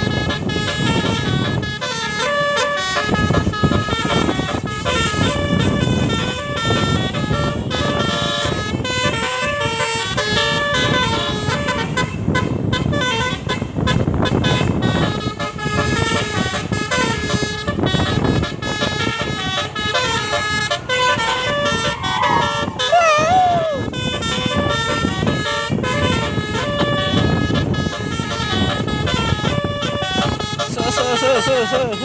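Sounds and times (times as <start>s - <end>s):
musical air horn playing tune: 0.0s - 32.0s.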